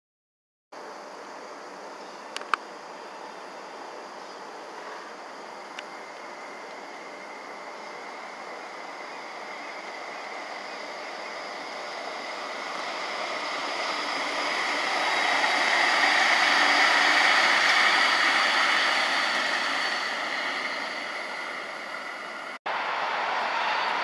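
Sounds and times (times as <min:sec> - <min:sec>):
tram wheels rolling on rails: 0:04.8 - 0:24.0.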